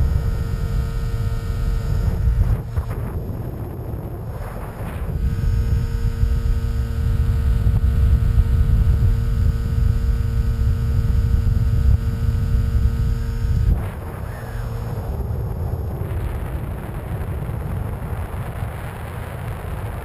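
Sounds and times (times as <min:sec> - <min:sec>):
electric motor and propeller hum: 0:00.0 - 0:20.0
wind rumbling on microphone: 0:00.0 - 0:20.0.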